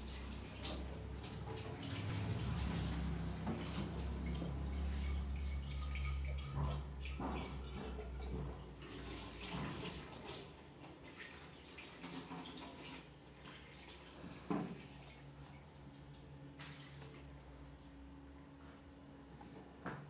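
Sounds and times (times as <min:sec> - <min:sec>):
water running and splashing: 0:00.0 - 0:17.3.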